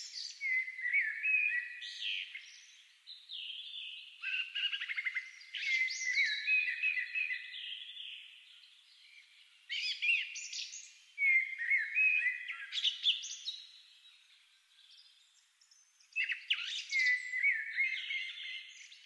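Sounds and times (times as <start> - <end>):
birdsong chirps and whistles: 0.0 - 19.0.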